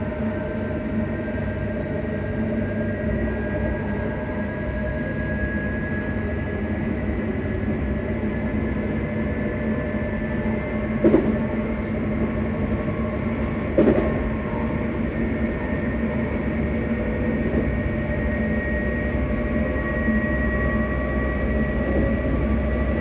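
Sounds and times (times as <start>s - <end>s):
electric train motor hum and whine: 0.0s - 23.0s
wheels rumbling on track: 0.0s - 23.0s.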